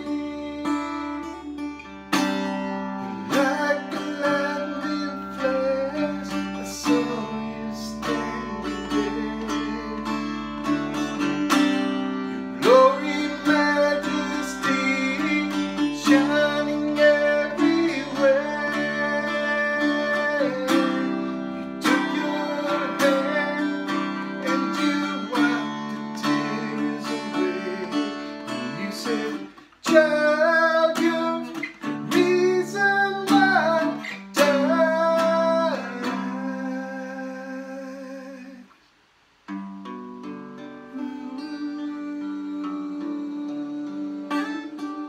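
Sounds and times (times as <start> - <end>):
man singing wordlessly: 0.0 - 1.6, 2.3 - 38.7, 40.9 - 45.0
guitar strumming chords: 0.0 - 38.6, 39.5 - 45.0.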